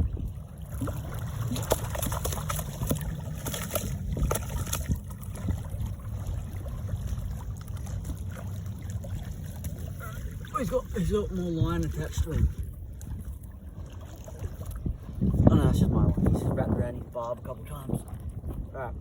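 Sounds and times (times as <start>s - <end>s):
water sloshing and splashing: 0.0s - 19.0s
wind rumble on microphone: 0.0s - 19.0s.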